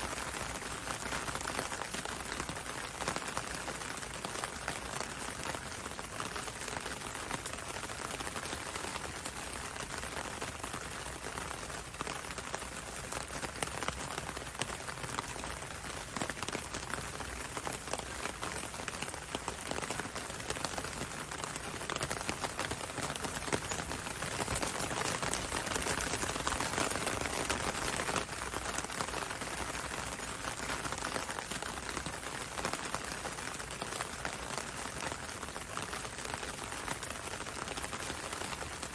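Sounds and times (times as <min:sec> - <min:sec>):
rain pattering on window and road: 0:00.0 - 0:38.9.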